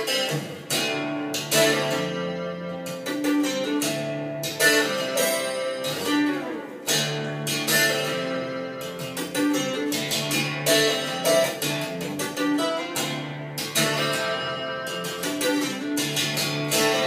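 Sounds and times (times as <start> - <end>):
plucked guitar music over loudspeakers: 0.0 - 17.0.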